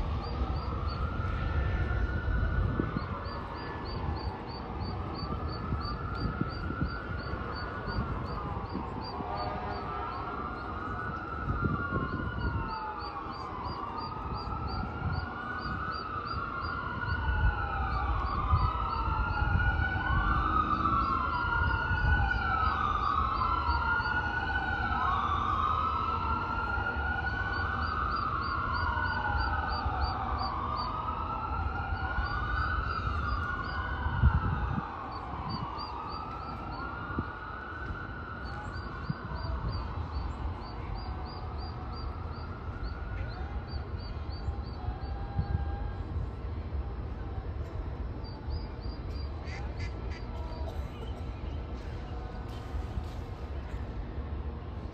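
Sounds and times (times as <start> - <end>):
wailing siren: 0.0 - 53.6.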